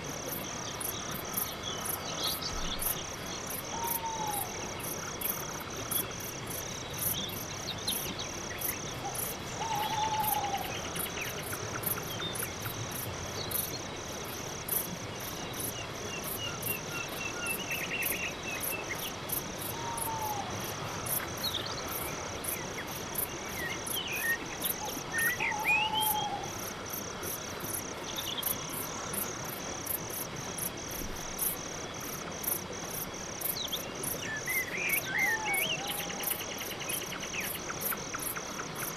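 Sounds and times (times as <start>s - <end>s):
crickets chirping: 0.0s - 38.9s
insects trilling: 0.0s - 38.9s.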